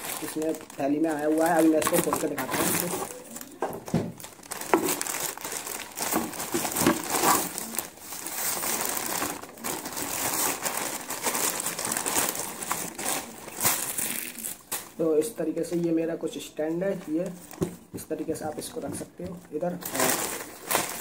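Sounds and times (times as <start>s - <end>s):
plastic bag crinkling: 0.0s - 17.9s, 19.5s - 21.0s.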